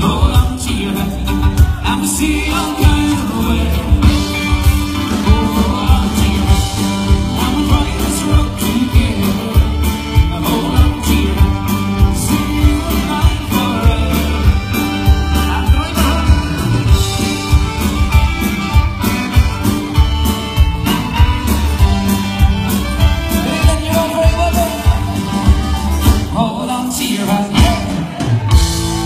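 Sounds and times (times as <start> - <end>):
person singing: 0.0 - 17.6, 23.0 - 28.6
acoustic guitar: 0.0 - 29.0
drums keeping a steady beat: 0.0 - 29.0.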